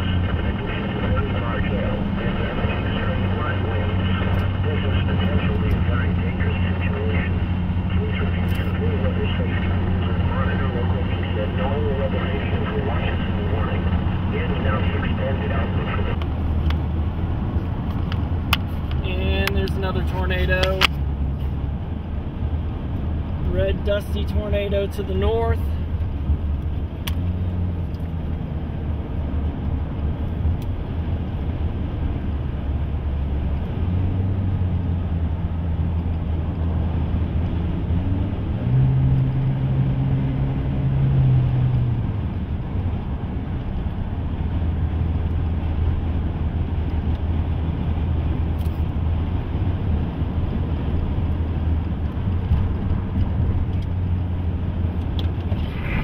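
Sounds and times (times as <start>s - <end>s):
vehicle engine and road drone: 0.0s - 56.0s.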